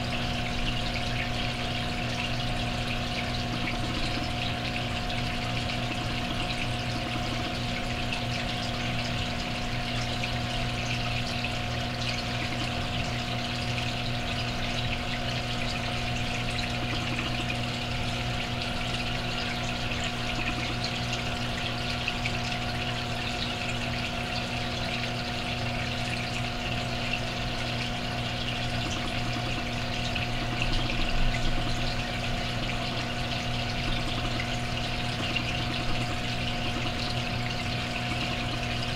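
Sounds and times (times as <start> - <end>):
electric motor hum: 0.0 - 38.9.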